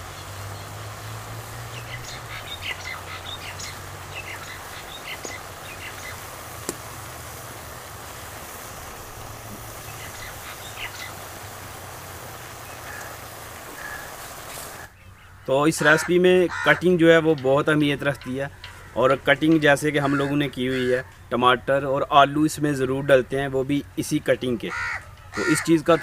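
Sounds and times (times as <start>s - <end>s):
birds calling: 0.0s - 26.0s.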